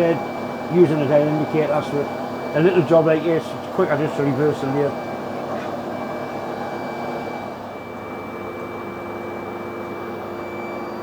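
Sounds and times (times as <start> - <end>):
metal lathe humming: 0.0 - 11.0.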